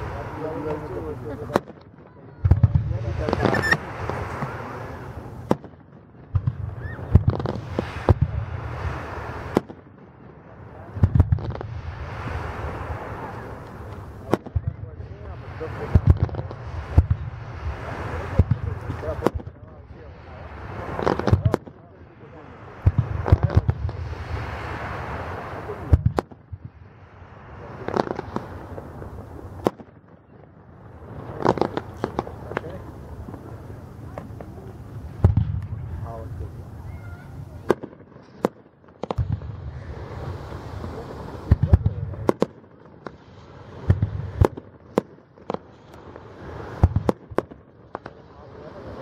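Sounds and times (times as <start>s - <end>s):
fireworks bursting in bangs: 0.0s - 49.0s.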